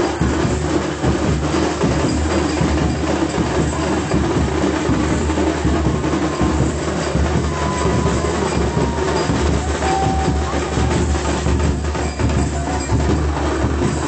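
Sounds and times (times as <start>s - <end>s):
crowd noise: 0.0s - 14.0s
dense drumming: 0.0s - 14.0s.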